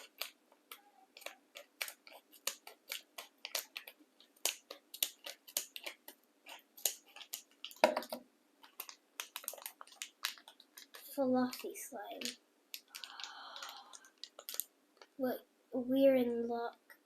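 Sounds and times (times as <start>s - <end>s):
plastic packaging crinkling: 0.0s - 15.2s.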